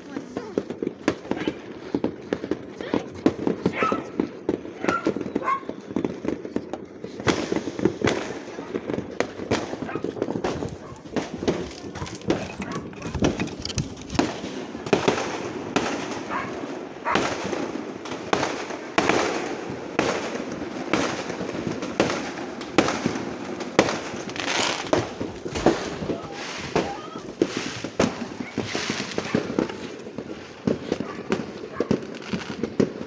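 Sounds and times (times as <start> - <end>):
distant fireworks bursts: 0.0 - 33.0
fireworks sharp bangs: 0.0 - 33.0.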